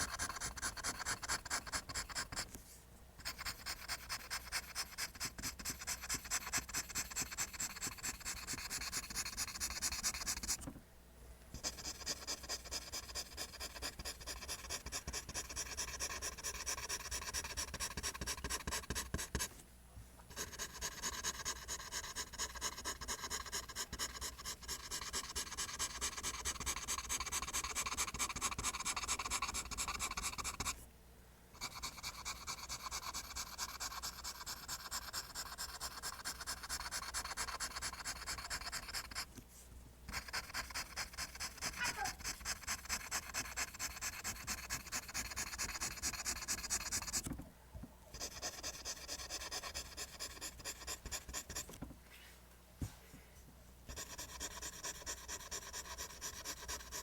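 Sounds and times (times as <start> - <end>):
pencil drawing on paper: 0.0 - 2.5, 3.2 - 10.7, 11.6 - 19.5, 20.3 - 30.8, 31.6 - 39.3, 40.1 - 47.3, 48.2 - 51.8, 53.9 - 57.0.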